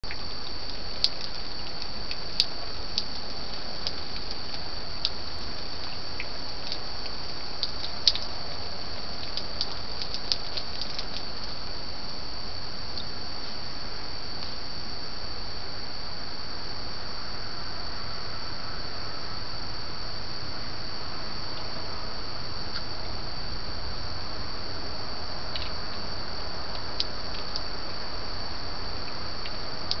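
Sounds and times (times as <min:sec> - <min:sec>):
night insects chirring: 0:00.0 - 0:30.0
steady hiss: 0:00.0 - 0:30.0.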